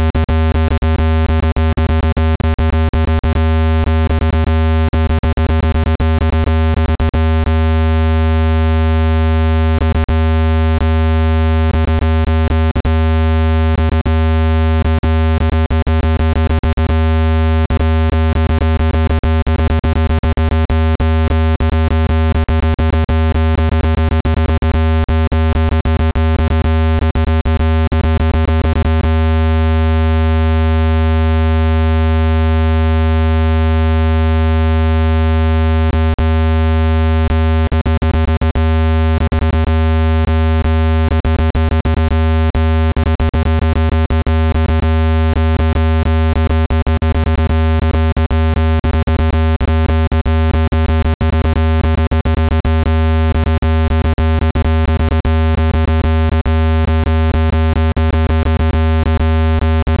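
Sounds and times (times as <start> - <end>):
low electronic buzzing tone: 0.0 - 60.0.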